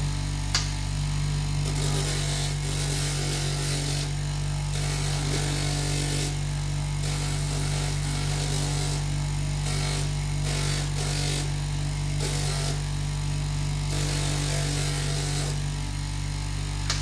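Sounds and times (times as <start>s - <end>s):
bench grinder motor humming: 0.0s - 17.0s.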